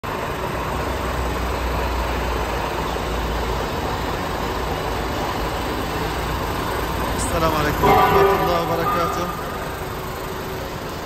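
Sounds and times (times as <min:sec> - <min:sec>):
diesel truck engine idling: 0:00.1 - 0:11.0.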